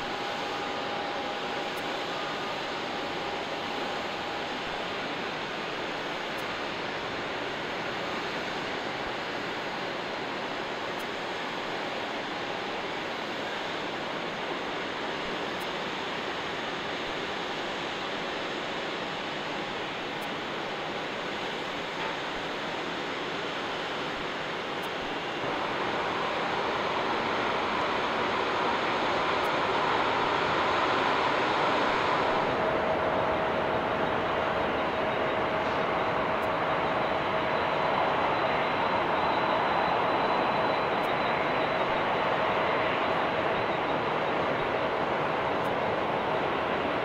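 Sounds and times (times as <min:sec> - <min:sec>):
jet airliner engines rushing: 0:00.0 - 0:47.0.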